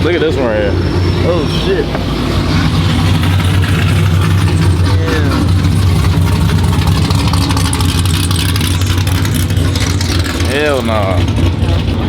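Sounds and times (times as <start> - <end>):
car engine idling: 0.0 - 12.0
falling whine: 0.0 - 12.0.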